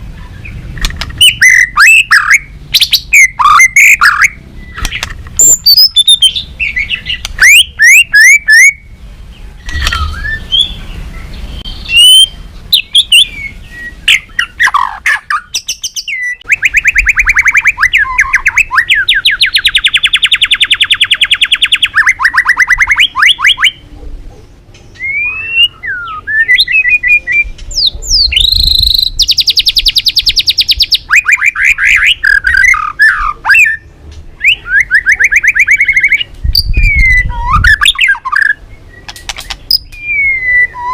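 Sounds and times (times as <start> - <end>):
bird singing whistles and trills: 1.2 - 23.8, 24.9 - 40.9.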